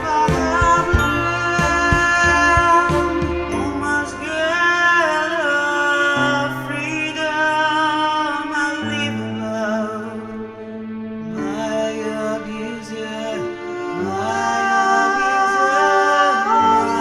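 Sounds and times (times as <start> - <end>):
slow song with held notes: 0.0 - 17.0.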